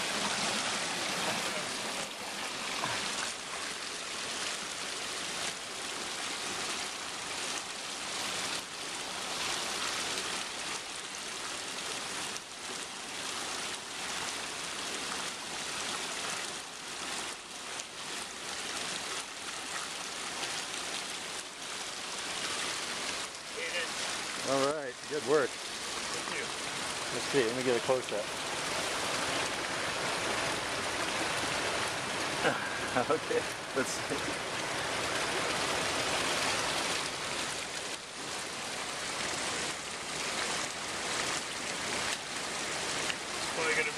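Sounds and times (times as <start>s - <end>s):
creek rushing over rocks: 0.0s - 43.9s.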